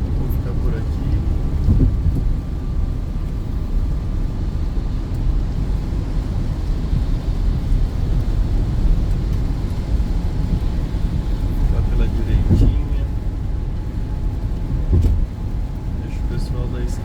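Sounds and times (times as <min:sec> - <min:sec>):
car cabin engine rumble: 0:00.0 - 0:17.0.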